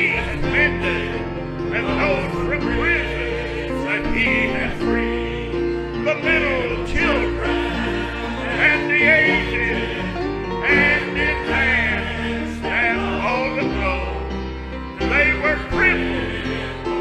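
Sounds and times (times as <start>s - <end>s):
gospel singing with vibrato: 0.0s - 17.0s.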